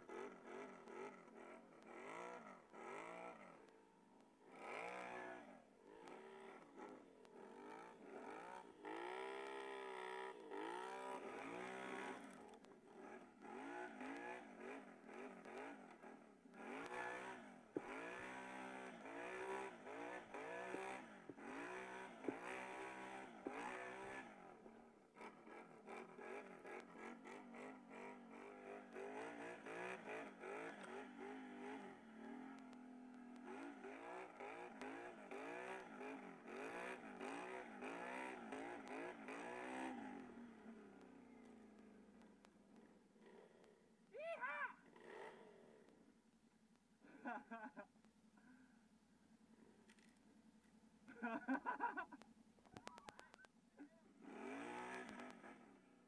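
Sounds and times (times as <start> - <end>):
atv engine revving: 0.0 - 46.2, 49.5 - 56.0.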